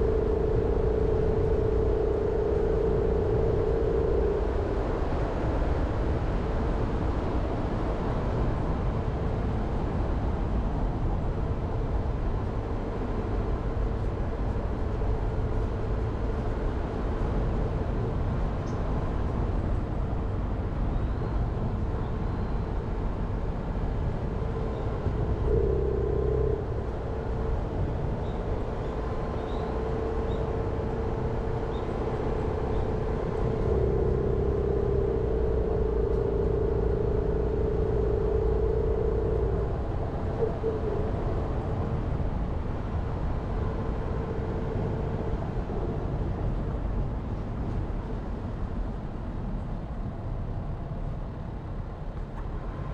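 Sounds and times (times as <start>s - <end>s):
car engine and tyre noise: 0.0s - 52.9s.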